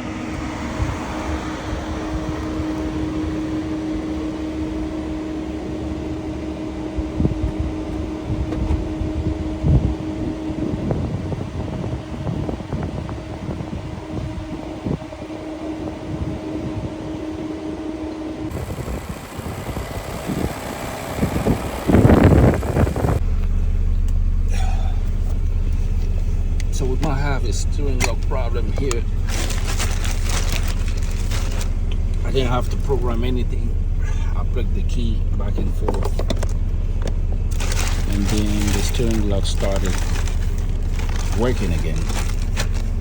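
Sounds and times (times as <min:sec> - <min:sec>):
car engine rush: 0:00.0 - 0:43.0
fan whirring: 0:00.0 - 0:43.0
steady hum: 0:00.0 - 0:43.0.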